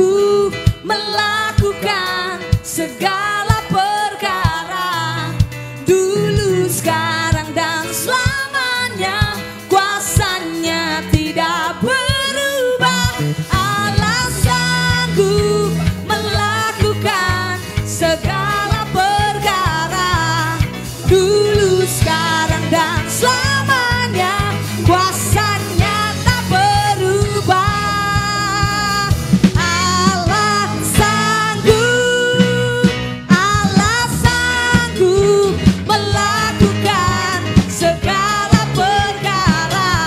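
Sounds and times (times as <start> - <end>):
backing band with drums and guitar: 0.0 - 40.0
person singing: 0.0 - 40.0.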